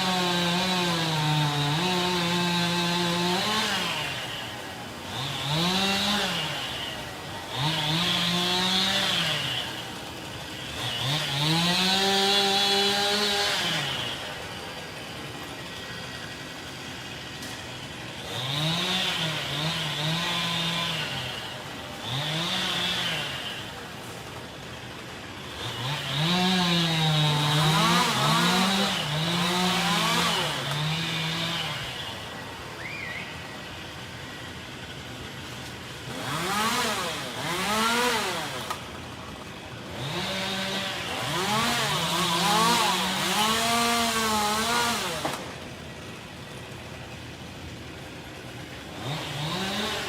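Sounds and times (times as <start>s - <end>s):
chainsaw revving and idling: 0.0s - 50.0s.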